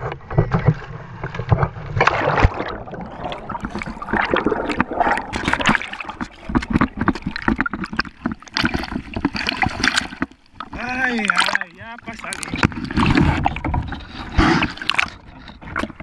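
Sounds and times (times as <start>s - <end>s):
underwater bubbling and gurgling: 0.0s - 16.0s
water splashing and churning: 0.0s - 16.0s.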